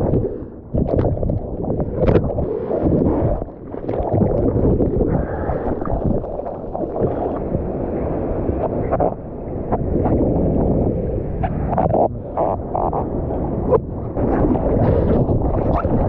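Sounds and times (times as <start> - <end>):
sea water sloshing: 0.0 - 16.0
wind buffeting microphone: 0.0 - 16.0.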